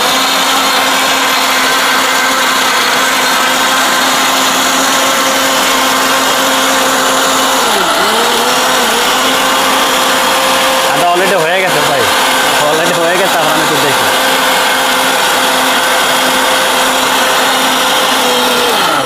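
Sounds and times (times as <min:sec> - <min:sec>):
mixer grinder motor whining: 0:00.0 - 0:19.0.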